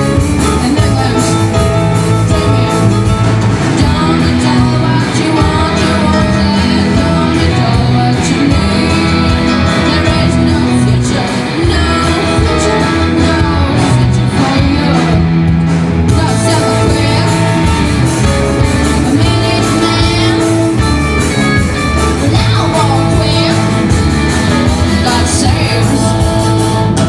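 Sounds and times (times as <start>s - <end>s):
lead singer: 0.0s - 27.0s
live rock band playing: 0.0s - 27.0s.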